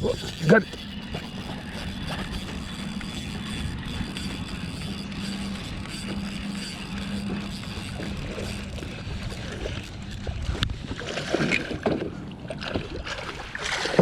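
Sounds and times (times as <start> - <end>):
motorboat engine humming: 0.0 - 14.0
rumble of wind and water: 0.0 - 14.0.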